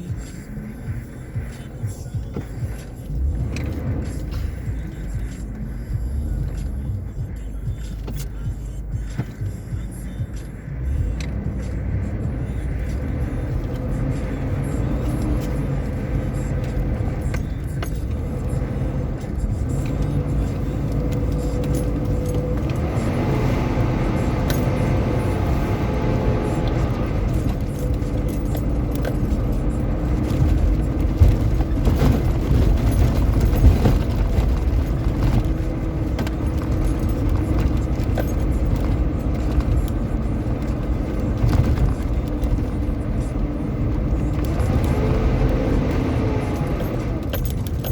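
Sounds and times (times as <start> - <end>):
vehicle engine rumbling: 0.0 - 47.9
vehicle knocks and jolts: 0.0 - 47.9.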